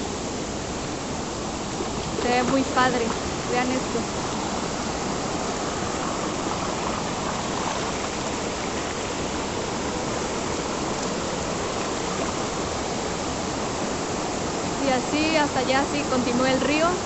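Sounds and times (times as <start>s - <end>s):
stream water rushing over rock: 0.0s - 17.0s.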